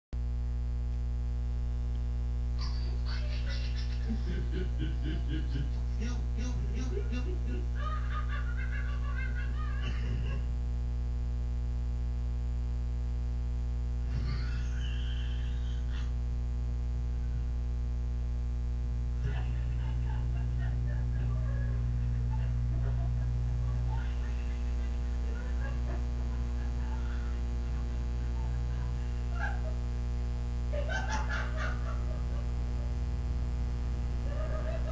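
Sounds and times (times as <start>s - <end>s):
low electrical hum: 0.2s - 34.9s.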